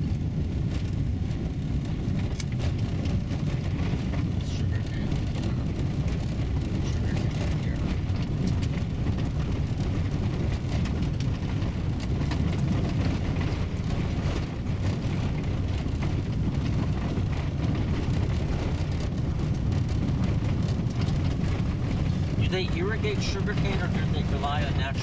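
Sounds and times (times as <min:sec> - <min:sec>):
car engine and tyre noise: 0:00.0 - 0:25.0.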